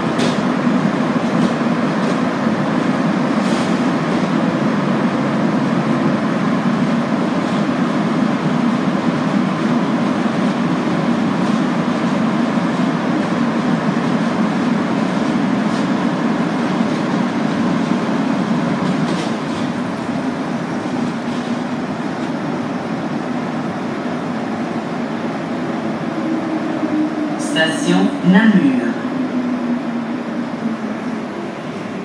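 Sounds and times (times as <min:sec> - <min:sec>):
train tyres roaring in tunnel: 0:00.0 - 0:32.0.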